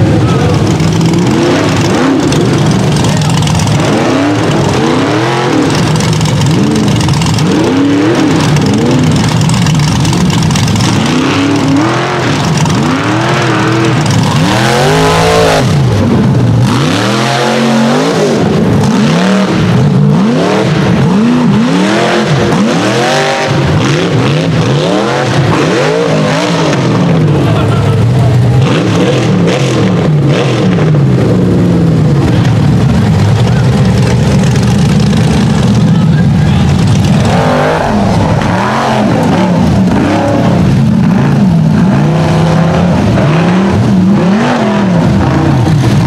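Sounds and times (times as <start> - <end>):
buggy engines revving: 0.0 - 46.0.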